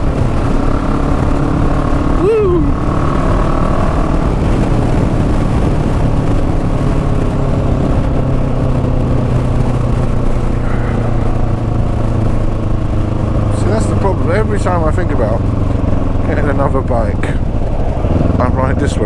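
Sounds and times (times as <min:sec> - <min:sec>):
motorcycle engine running: 0:00.0 - 0:19.0
rushing wind: 0:00.0 - 0:19.0.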